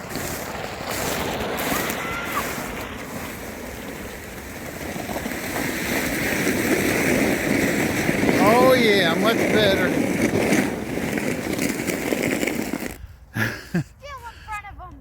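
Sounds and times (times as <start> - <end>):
sled scraping on icy snow: 0.0 - 13.1.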